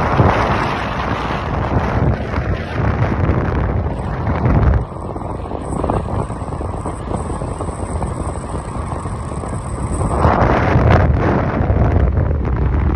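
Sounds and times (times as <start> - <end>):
car tyre and road noise: 0.0 - 12.9
wind rushing over microphone: 0.0 - 12.9.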